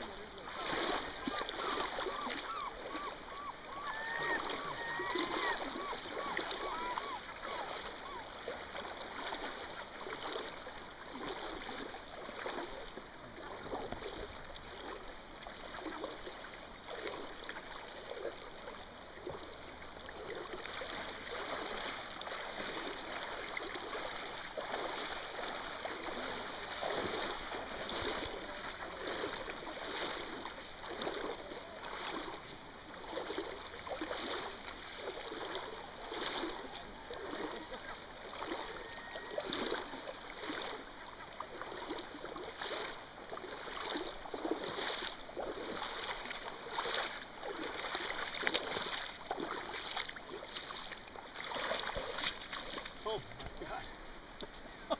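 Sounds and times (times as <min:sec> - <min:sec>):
fish splashing in river water: 0:00.0 - 0:54.9
rush of flowing water: 0:00.0 - 0:54.9.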